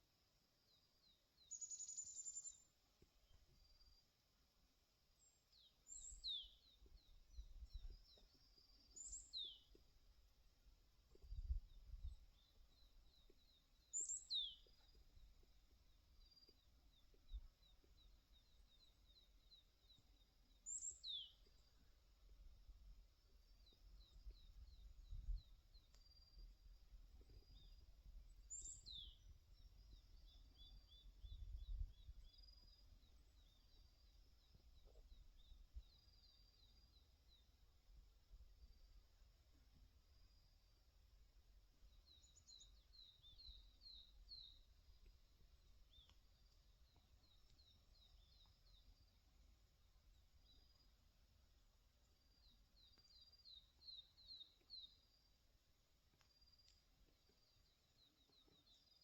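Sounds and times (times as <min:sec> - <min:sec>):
small birds chirping: 0:00.7 - 0:04.1, 0:05.1 - 0:59.0.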